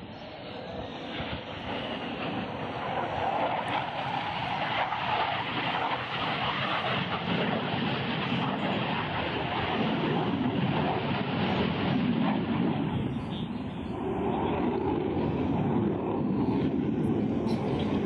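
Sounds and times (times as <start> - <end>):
aircraft flying past: 0.0 - 18.0.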